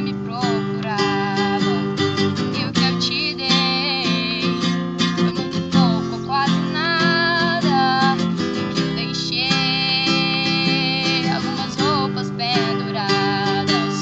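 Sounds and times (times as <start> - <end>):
acoustic guitar strumming: 0.0 - 14.0
woman singing: 0.0 - 14.0.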